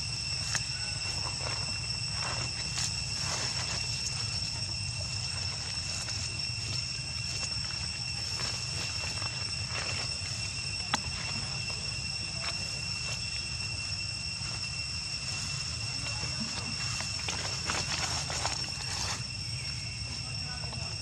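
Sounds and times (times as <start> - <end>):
high-pitched two-tone whine: 0.0 - 21.0.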